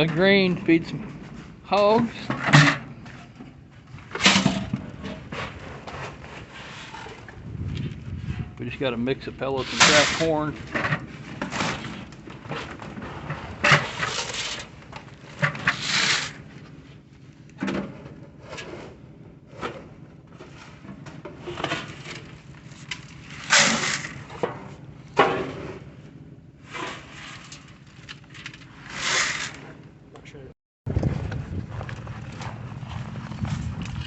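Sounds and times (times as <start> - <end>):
knocks and scrapes: 0.0 - 17.0, 17.6 - 29.8, 30.9 - 34.0.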